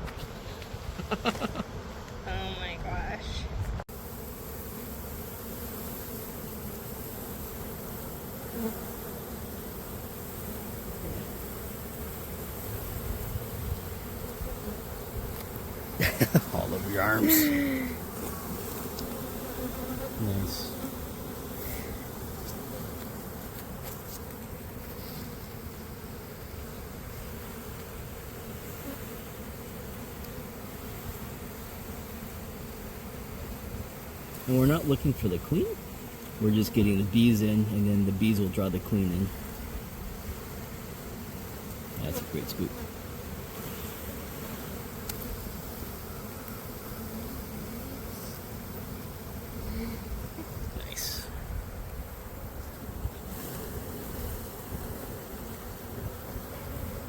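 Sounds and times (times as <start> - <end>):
bee swarm buzzing: 0.0 - 57.0.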